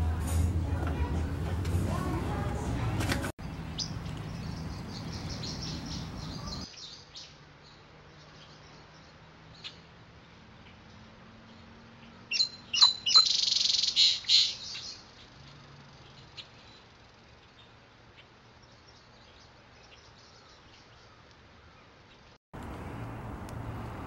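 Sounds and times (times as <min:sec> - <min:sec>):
songbirds chirping: 0:03.2 - 0:24.0.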